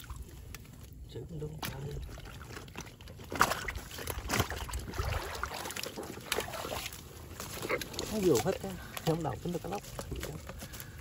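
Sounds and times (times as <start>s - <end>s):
muddy water sloshing and dripping: 0.0s - 11.0s.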